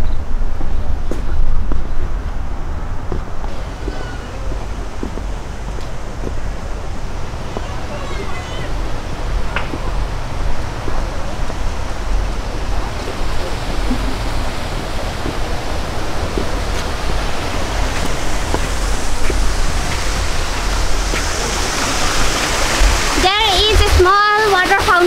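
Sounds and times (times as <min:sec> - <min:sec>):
deep fluctuating rumble: 0:00.0 - 0:24.7
steady rushing noise: 0:00.0 - 0:25.0.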